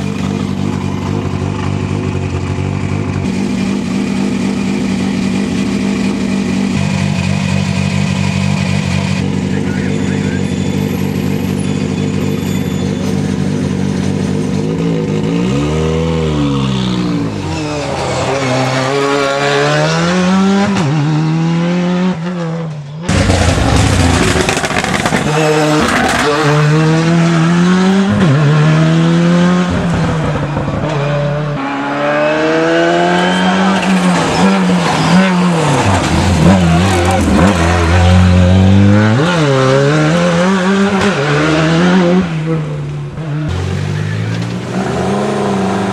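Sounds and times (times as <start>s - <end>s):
car driven hard through a bend: 0.0s - 45.9s
car engine idling and revving: 0.0s - 45.9s.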